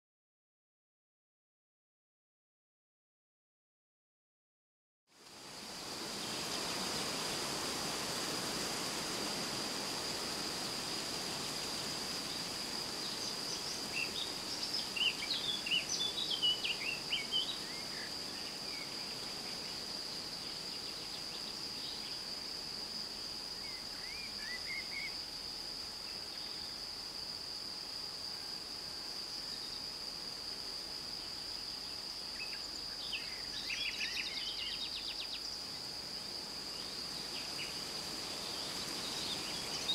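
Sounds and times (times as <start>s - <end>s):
wind rustling leaves: 5.1s - 39.9s
high-pitched insect drone: 5.5s - 39.9s.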